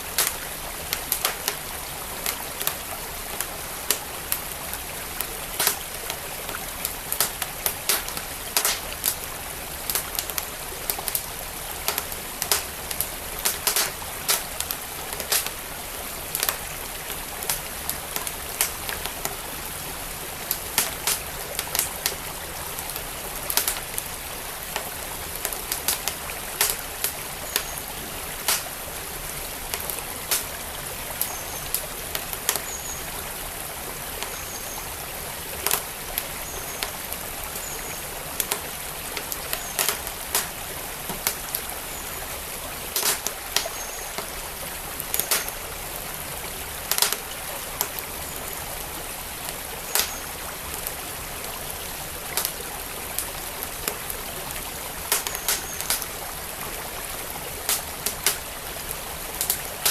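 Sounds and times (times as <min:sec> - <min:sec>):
creek flowing: 0:00.0 - 0:59.9
wood fire crackling: 0:00.0 - 0:59.9.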